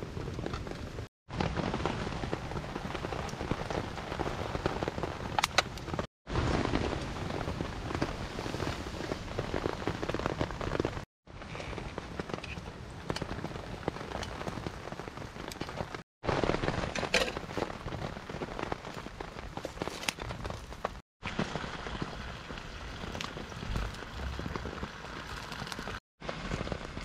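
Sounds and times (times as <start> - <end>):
campfire crackling and popping: 0.0 - 27.0
rain pattering on a tarp: 0.0 - 27.0.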